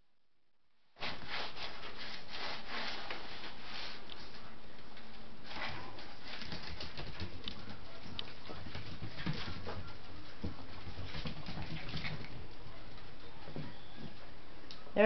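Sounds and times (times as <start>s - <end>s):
puppies scrabbling on vinyl floor: 1.0s - 14.3s.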